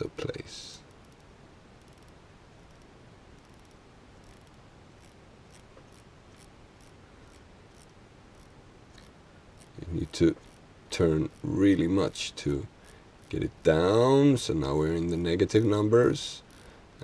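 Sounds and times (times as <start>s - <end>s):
rotary knob detent clicks: 0.0s - 13.5s, 15.0s - 16.7s.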